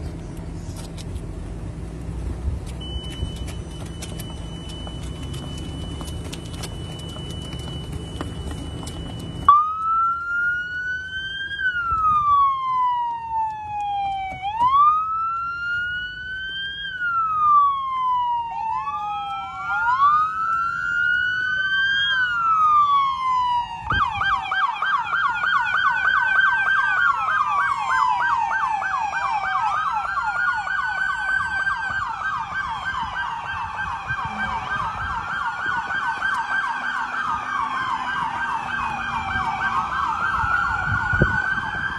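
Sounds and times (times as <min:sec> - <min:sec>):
emergency sirens wailing: 0:02.8 - 0:41.9
siren fast yelp: 0:02.9 - 0:41.9.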